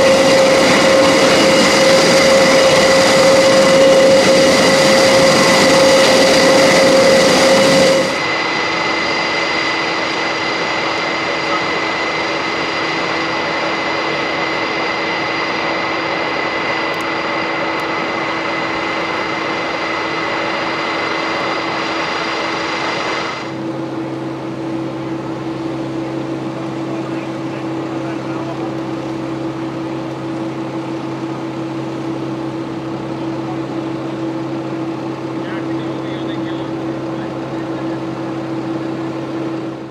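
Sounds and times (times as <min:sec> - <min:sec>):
aircraft turbine whine: 0:00.0 - 0:39.9.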